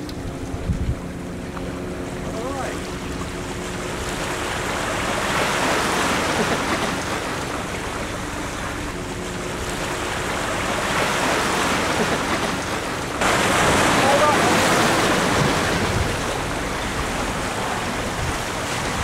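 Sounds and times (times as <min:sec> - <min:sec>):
sea waves breaking on rocks: 0:00.0 - 0:19.0
wind buffeting microphone: 0:00.0 - 0:19.0.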